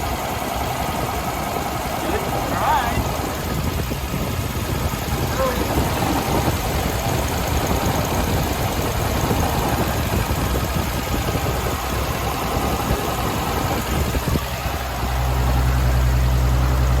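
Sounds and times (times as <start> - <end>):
motor running with rattle: 0.0 - 17.0.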